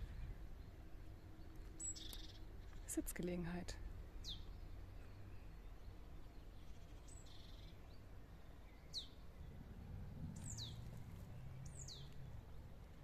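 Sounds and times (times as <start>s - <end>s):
faint low rumble: 0.0s - 13.0s.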